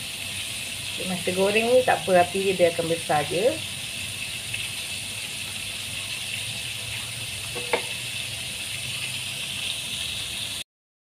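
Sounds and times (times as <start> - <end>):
chicken deep-frying in oil: 0.0 - 10.6.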